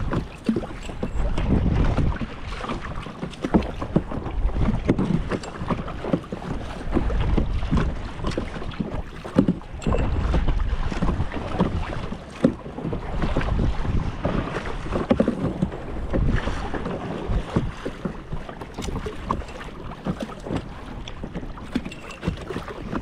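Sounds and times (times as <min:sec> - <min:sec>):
paddle splashing water: 0:00.0 - 0:23.0
wind rumble on microphone: 0:00.0 - 0:23.0.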